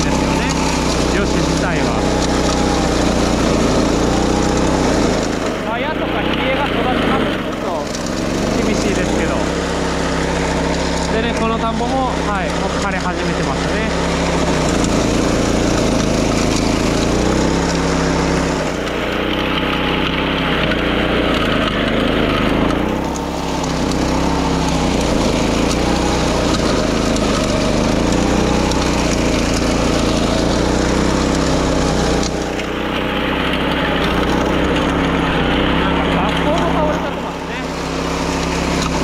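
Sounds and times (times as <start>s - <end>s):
small mower engine running: 0.0s - 39.0s.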